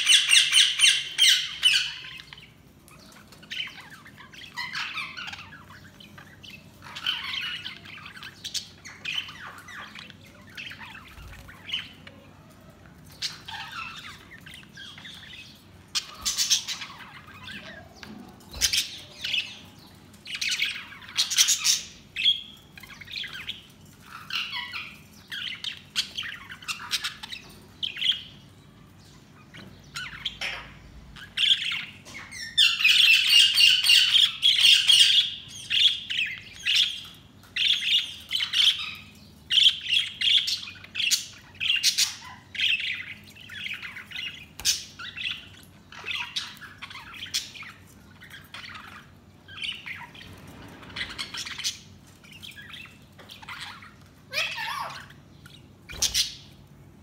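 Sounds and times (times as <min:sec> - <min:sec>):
budgerigars chirping: 0:00.0 - 0:12.2, 0:13.1 - 0:28.4, 0:29.4 - 0:56.6.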